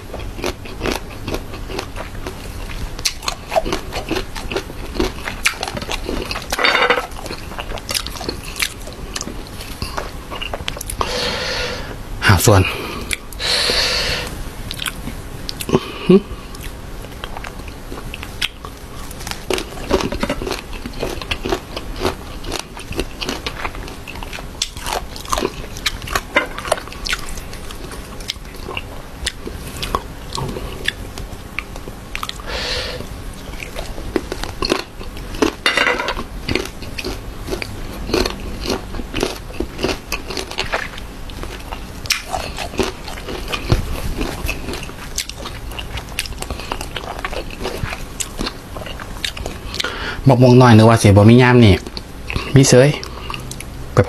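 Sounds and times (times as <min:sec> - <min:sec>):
crunchy chewing: 0:00.0 - 0:11.9, 0:12.6 - 0:50.0, 0:51.6 - 0:53.8.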